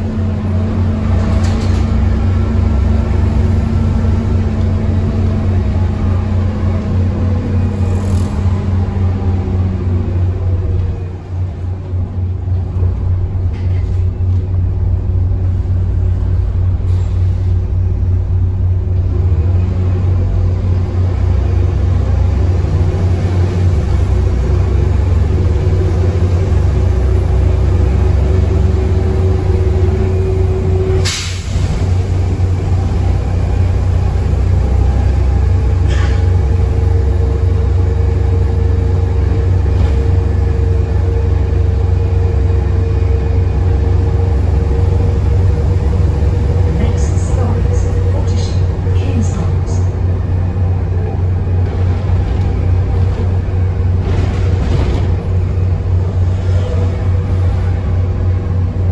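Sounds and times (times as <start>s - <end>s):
bus diesel engine rumbling: 0.0s - 58.9s.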